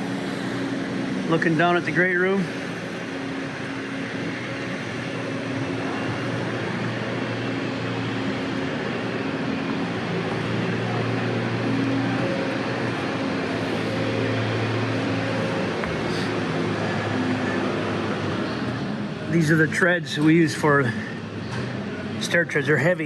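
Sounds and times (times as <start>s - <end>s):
mechanical drone with rushing noise: 0.0s - 23.0s.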